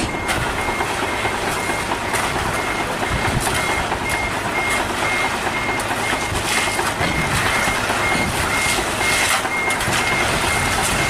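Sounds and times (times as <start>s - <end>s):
diesel machinery running: 0.0s - 11.0s
reversing alarm beeping: 0.0s - 11.0s.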